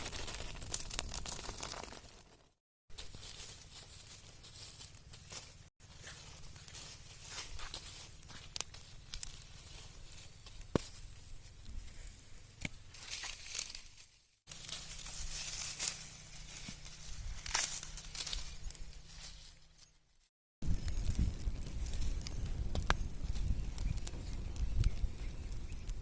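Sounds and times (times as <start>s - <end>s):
dry plants rustling and crackling: 0.0s - 26.0s.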